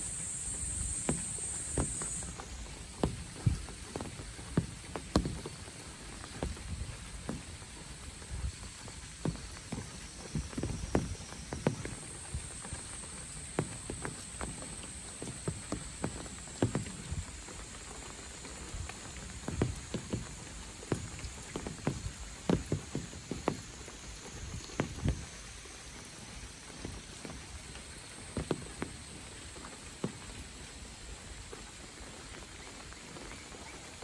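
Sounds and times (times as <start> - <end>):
insects buzzing: 0.0 - 33.0
rain falling: 0.0 - 34.0.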